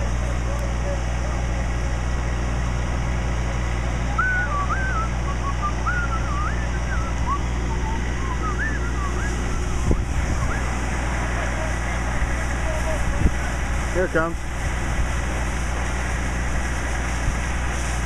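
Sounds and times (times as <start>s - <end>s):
fire engine running: 0.0s - 18.0s.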